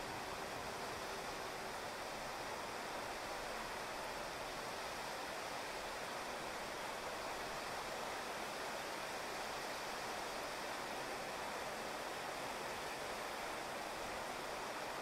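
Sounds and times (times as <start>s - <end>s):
steady rain on street: 0.0s - 15.0s.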